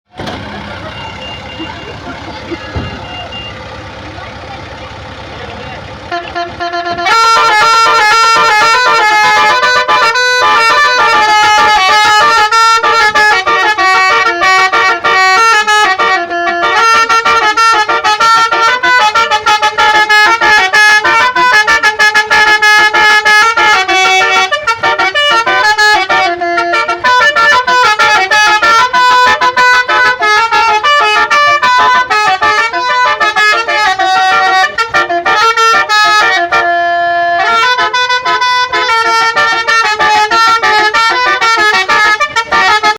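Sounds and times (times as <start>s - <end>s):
bus horn playing fast melody: 0.1s - 42.9s.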